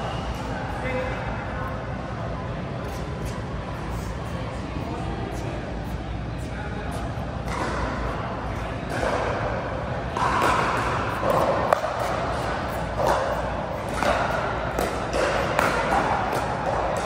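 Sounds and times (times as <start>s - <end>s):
echoing babble of voices: 0.0s - 17.0s.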